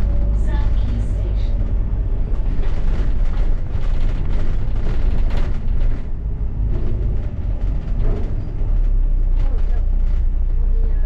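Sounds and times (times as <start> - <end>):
rattling: 0.0 - 10.3
bus engine and road rumble: 0.0 - 11.0.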